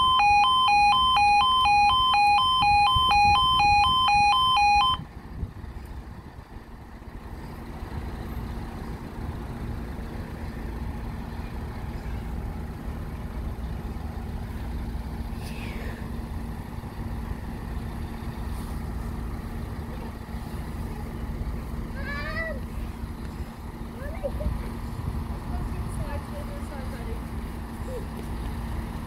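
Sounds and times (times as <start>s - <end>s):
train engine rumbling: 0.0s - 29.0s.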